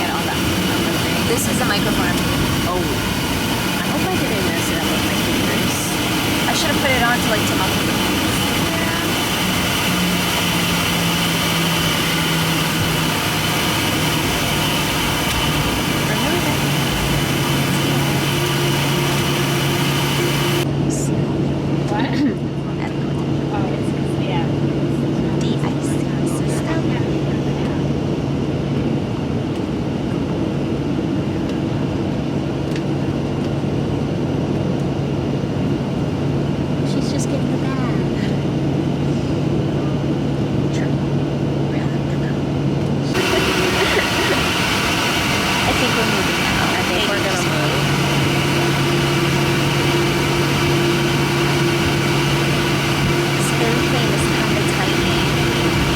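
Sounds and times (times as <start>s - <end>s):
airliner cabin drone: 0.0s - 55.9s.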